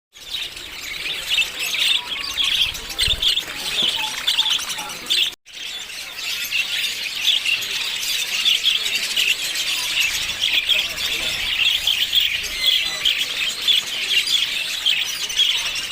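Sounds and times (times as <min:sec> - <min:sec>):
lovebirds chirping and squawking: 0:00.2 - 0:15.9.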